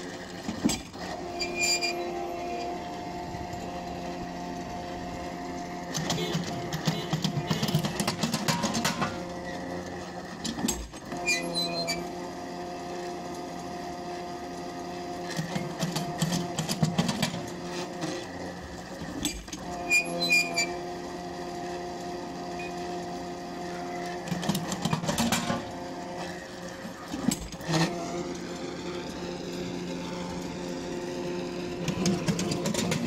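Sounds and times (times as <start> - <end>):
winch motor humming: 0.0 - 33.0.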